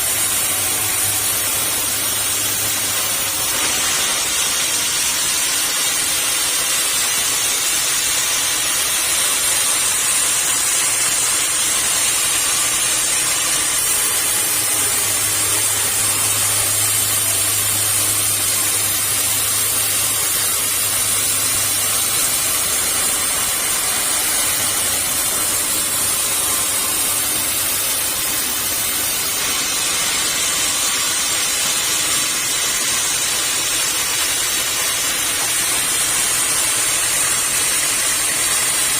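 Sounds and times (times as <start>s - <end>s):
saw blade cutting wood: 0.0s - 38.9s.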